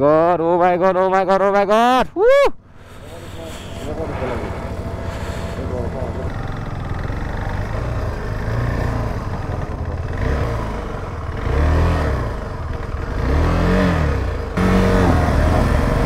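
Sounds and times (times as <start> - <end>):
motorcycle engine revving: 2.7 - 16.0.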